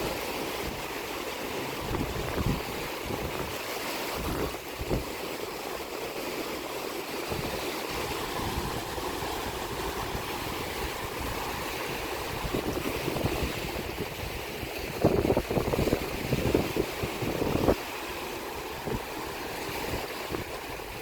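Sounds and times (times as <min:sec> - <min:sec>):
wind buffeting microphone: 0:00.0 - 0:05.3, 0:07.1 - 0:21.0
sea waves washing on shore: 0:00.0 - 0:21.0.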